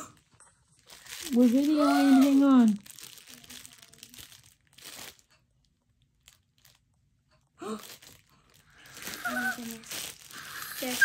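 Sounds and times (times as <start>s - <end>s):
plastic packaging crinkling: 0.0s - 7.0s, 7.6s - 11.0s.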